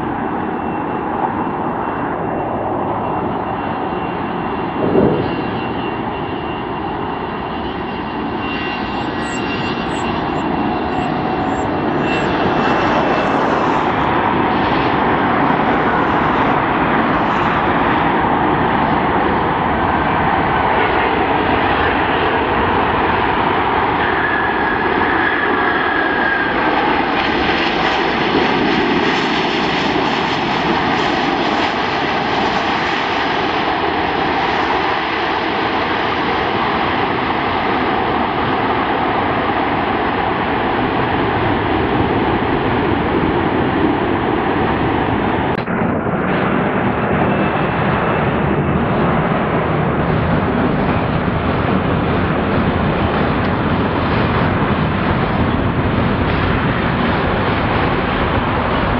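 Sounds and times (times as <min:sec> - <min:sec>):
jet engines landing: 0:00.0 - 0:58.9.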